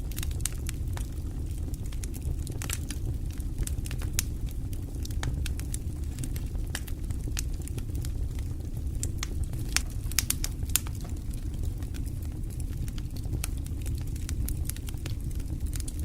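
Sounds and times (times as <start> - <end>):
low rumble of flames: 0.0 - 16.0
wood fire pops and snaps: 0.0 - 16.0.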